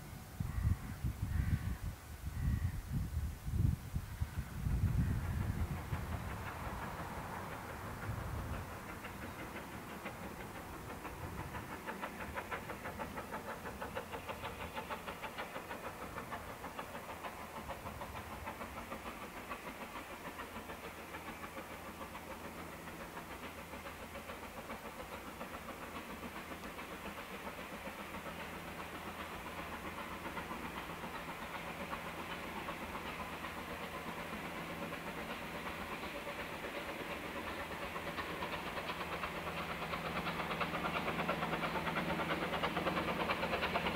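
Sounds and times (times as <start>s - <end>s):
steam locomotive chuffing: 0.0s - 43.9s.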